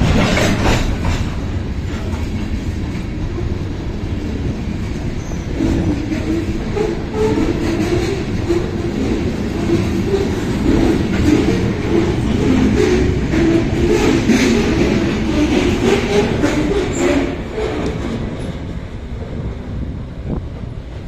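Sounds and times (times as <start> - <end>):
steel wheels rumbling on rails: 0.0 - 21.0.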